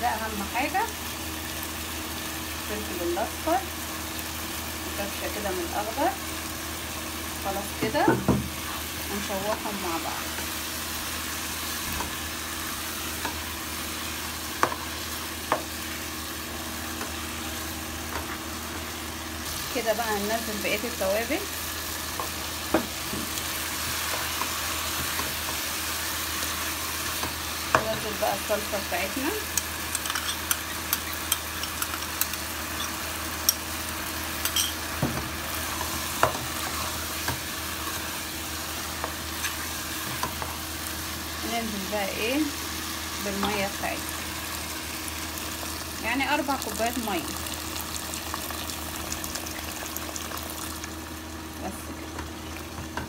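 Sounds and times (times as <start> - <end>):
food sizzling in a pot: 0.0 - 53.0.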